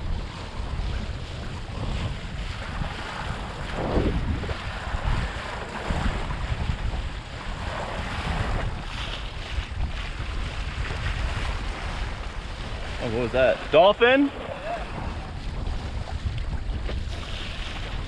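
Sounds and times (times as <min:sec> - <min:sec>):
water rushing and splashing: 0:00.0 - 0:18.0
wind rumble on microphone: 0:00.0 - 0:18.0.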